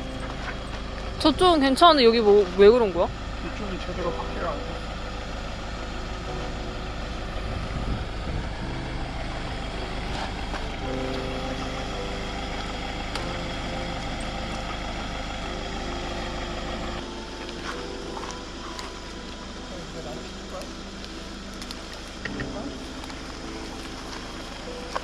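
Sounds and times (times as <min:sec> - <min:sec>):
van engine revving: 0:00.0 - 0:25.0.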